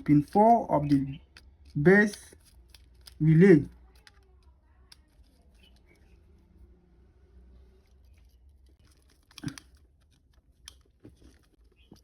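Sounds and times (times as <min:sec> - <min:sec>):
wire clicks and rustling: 0:00.0 - 0:06.2, 0:07.8 - 0:12.0.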